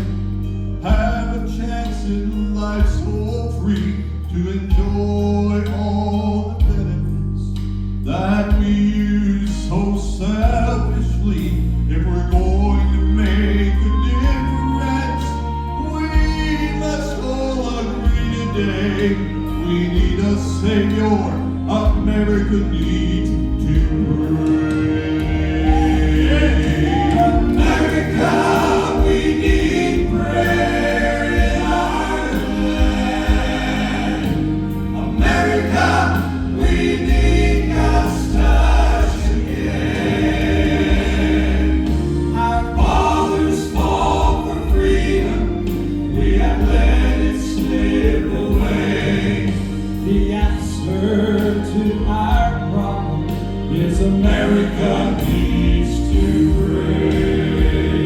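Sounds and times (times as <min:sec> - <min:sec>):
instrumental backing: 0:00.0 - 0:58.0
vocal quartet singing gospel: 0:00.0 - 0:58.0.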